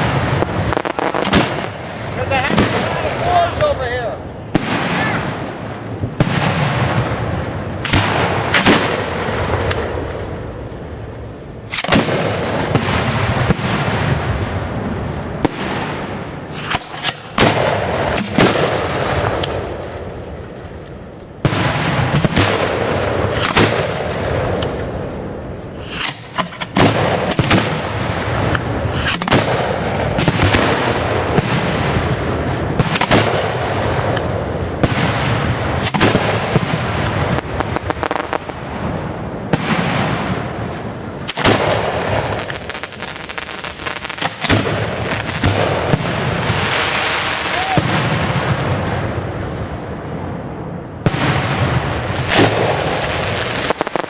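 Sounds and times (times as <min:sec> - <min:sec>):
fireworks bursts: 0:00.0 - 0:54.0
fireworks crackle and rumble: 0:00.0 - 0:54.0.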